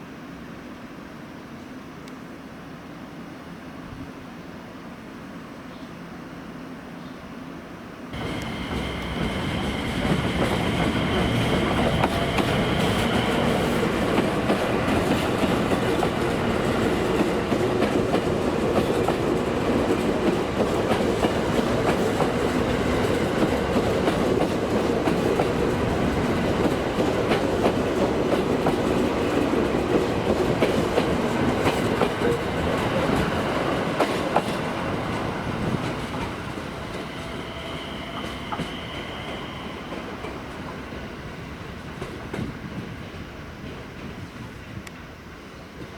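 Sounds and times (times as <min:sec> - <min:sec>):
electric train running past: 0:06.2 - 0:45.9.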